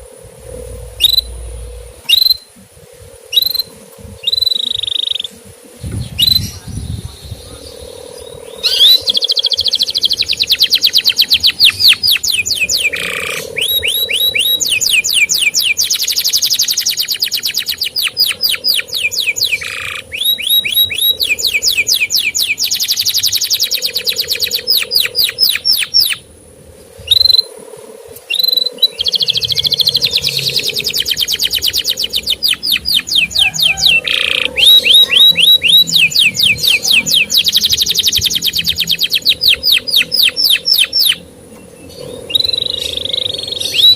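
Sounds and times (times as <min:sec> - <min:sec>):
canary singing trills: 0:00.0 - 0:26.3, 0:28.2 - 0:43.9.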